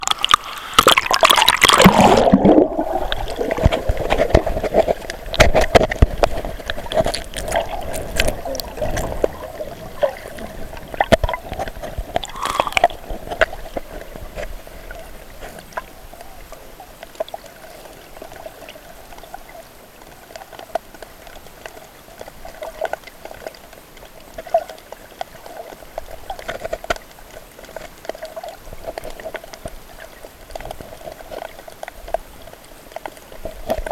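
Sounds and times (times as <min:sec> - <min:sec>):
underwater sloshing and bubbling: 0:00.0 - 0:33.9
water gurgling: 0:00.0 - 0:33.9.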